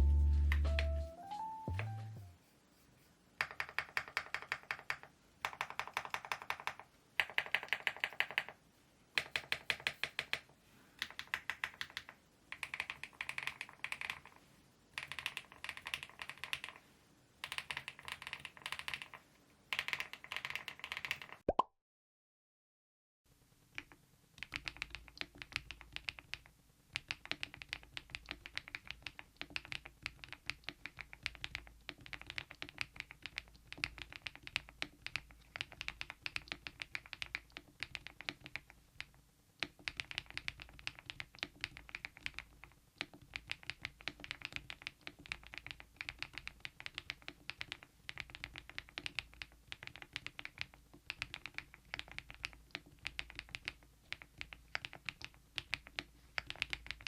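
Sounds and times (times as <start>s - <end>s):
fast mechanical keyboard typing: 3.4s - 8.6s, 9.2s - 14.4s, 15.0s - 16.8s, 17.4s - 21.4s, 24.4s - 57.0s.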